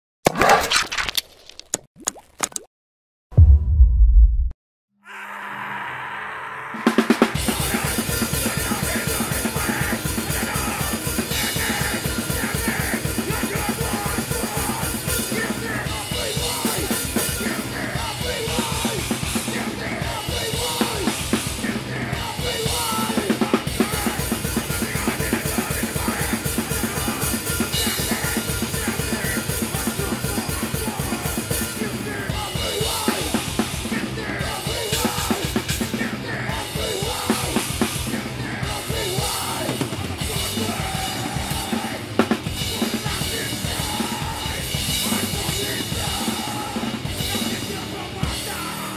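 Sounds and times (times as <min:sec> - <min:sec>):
fast punk drumming: 0:06.9 - 0:48.9
rock band playing: 0:06.9 - 0:48.9.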